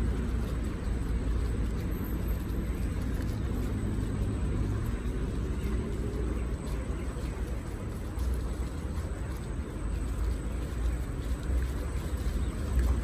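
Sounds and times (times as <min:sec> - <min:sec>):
scooter tyres rumbling on paving: 0:00.0 - 0:13.0
wind: 0:00.0 - 0:13.0.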